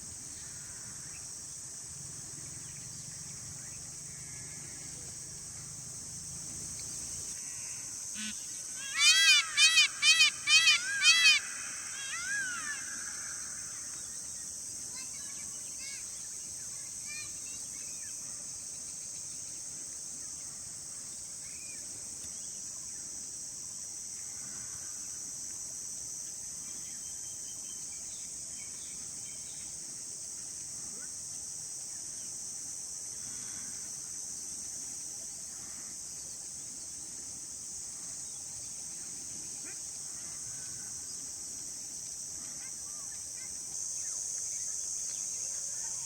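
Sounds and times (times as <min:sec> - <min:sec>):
insects chorus: 0:00.0 - 0:46.0.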